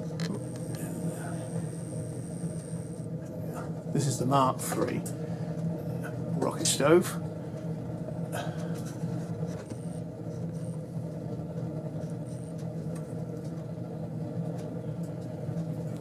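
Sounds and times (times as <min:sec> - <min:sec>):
stove burning with low hum: 0:00.0 - 0:16.0.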